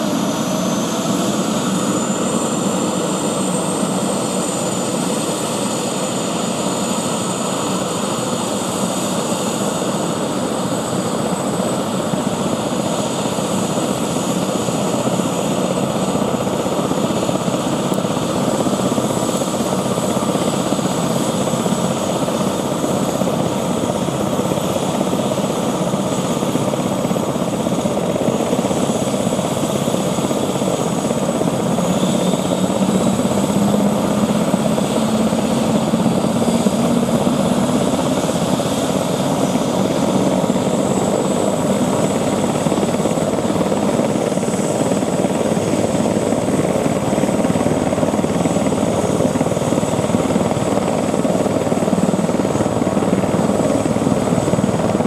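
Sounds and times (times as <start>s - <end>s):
helicopter rotor beat: 0.0s - 55.0s
turbine whine: 0.0s - 55.0s.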